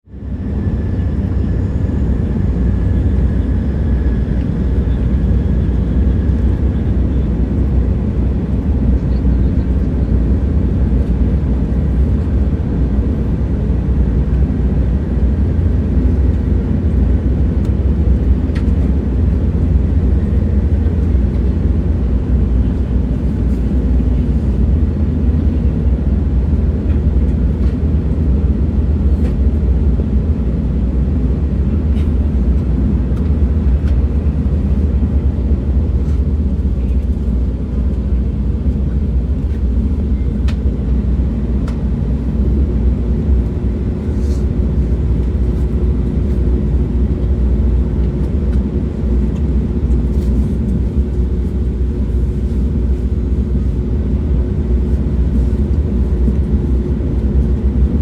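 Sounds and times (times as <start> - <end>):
train rumbling: 0.1 - 58.0.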